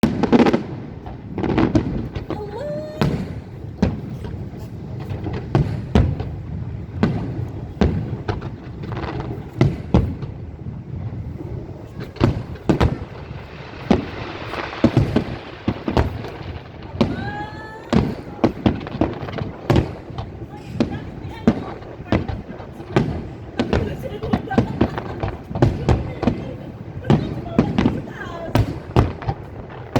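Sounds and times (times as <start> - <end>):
fireworks bangs and crackling: 0.0 - 29.9.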